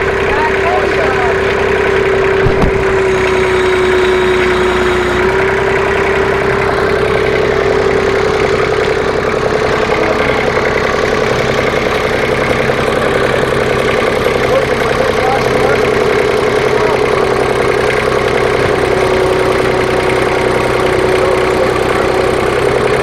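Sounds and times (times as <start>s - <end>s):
constant whine: 0.0s - 23.0s
engine idling: 0.0s - 23.0s.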